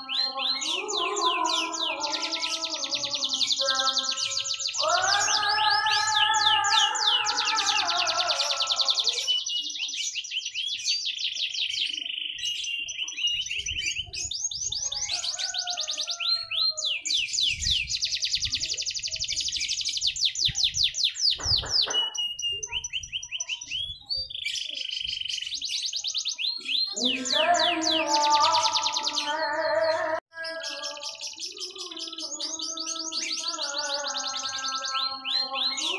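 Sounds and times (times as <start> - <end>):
canary singing trills: 0.0 - 35.9.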